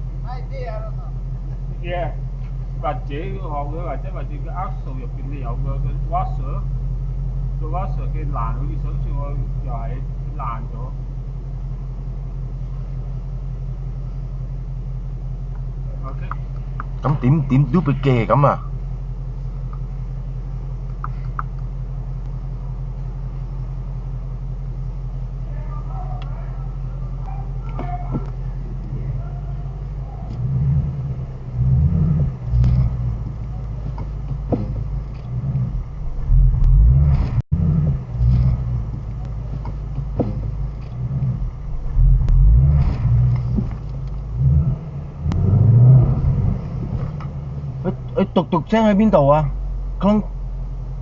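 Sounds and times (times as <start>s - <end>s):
engine low rumble: 0.0s - 51.0s.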